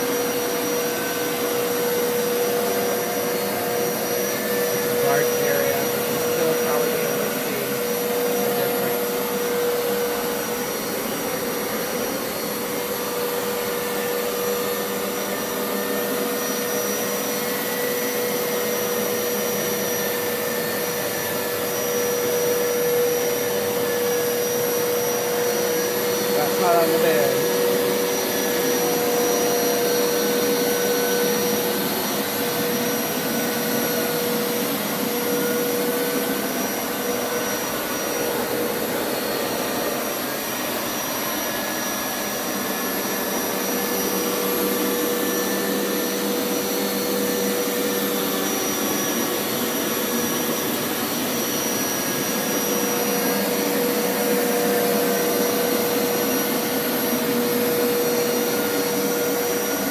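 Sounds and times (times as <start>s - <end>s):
carpet washer motor drone: 0.0s - 59.9s.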